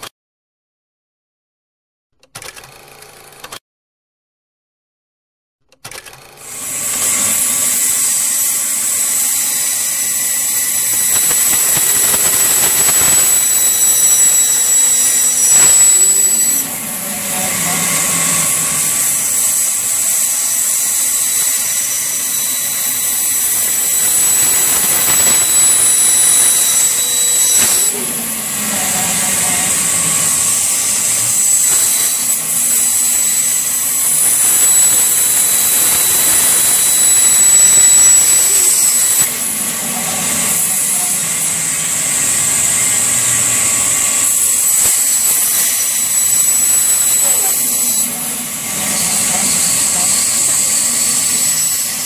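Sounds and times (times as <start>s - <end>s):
bandsaw whining: 5.9s - 52.0s.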